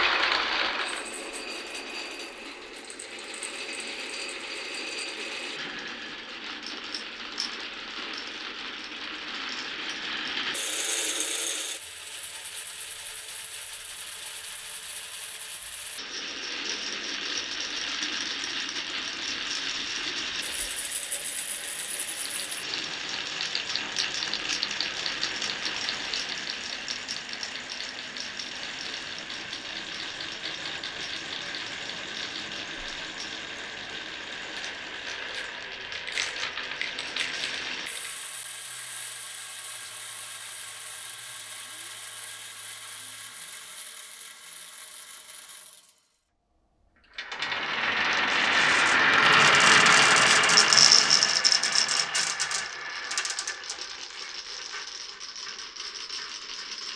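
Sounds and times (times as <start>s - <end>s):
marbles rattling on wooden run: 0.0s - 5.6s, 6.2s - 16.0s, 16.7s - 46.0s, 47.2s - 56.9s.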